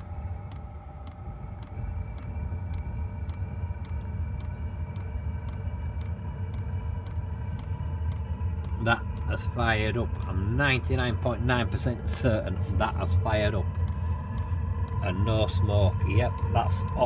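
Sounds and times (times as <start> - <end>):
burner low rumble: 0.0 - 17.0
fan whine: 0.0 - 17.0
fuel pump ticking: 0.0 - 17.0.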